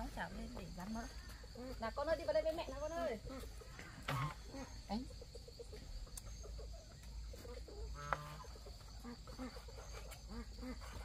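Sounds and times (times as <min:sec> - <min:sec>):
chorus of animal calls: 0:01.0 - 0:11.0.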